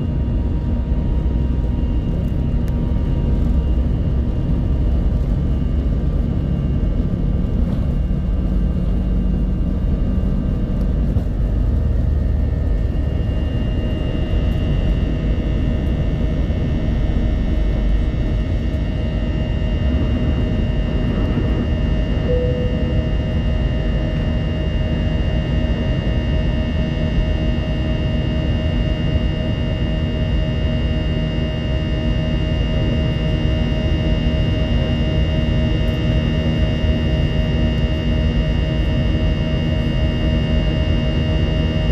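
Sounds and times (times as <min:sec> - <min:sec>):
jet engine rumble: 0:00.0 - 0:41.9
thin engine whine: 0:00.0 - 0:41.9.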